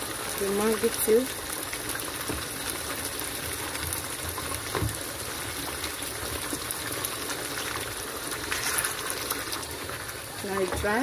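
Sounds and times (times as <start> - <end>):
sauce bubbling and sizzling: 0.0 - 11.0.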